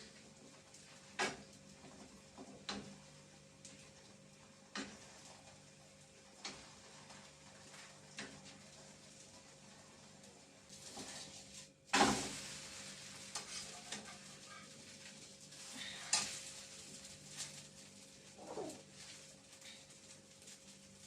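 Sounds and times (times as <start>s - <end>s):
batter sizzling in a pan: 0.0s - 21.0s.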